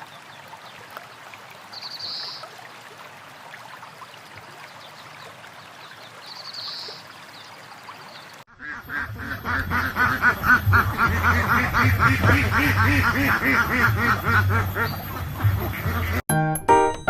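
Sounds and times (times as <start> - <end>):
running water rushing: 0.0 - 16.2.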